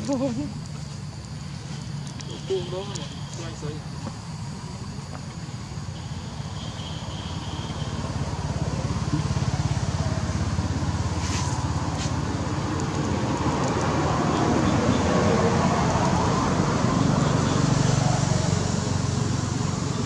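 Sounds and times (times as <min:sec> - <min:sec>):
motor vehicle engine rumble: 0:00.0 - 0:20.0.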